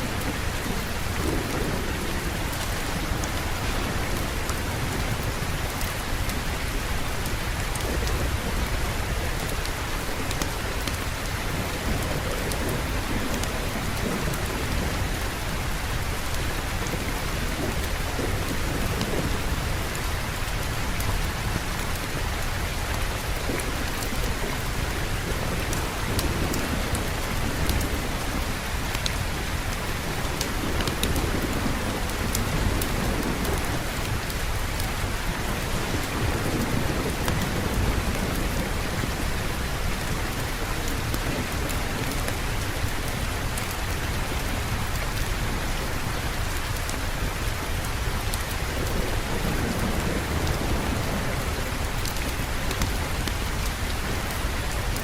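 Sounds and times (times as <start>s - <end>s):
heavy rain: 0.0s - 55.0s
rumbling thunder: 0.0s - 55.0s.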